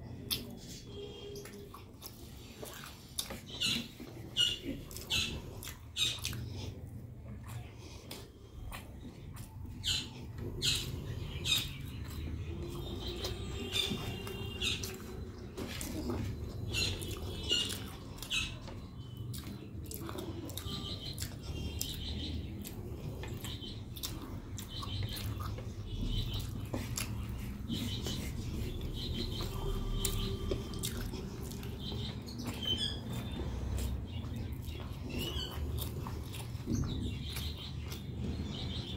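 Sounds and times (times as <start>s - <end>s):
chewing: 0.0s - 38.8s
birds chirping: 0.1s - 38.9s.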